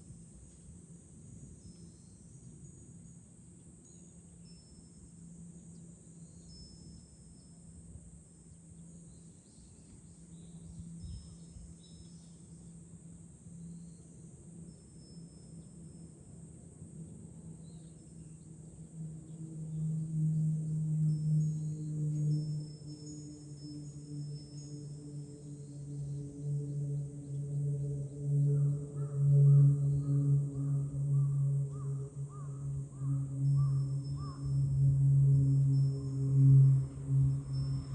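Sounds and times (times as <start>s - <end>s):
high ringing tones: 0.0s - 16.6s, 17.6s - 37.9s
cicadas droning: 0.0s - 37.9s
low steady hum: 0.0s - 37.9s
wind rumbling on microphone: 0.0s - 37.9s.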